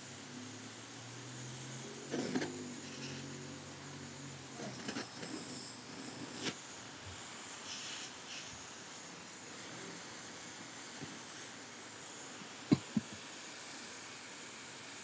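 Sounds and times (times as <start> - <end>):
propane torch hissing: 0.0 - 15.0.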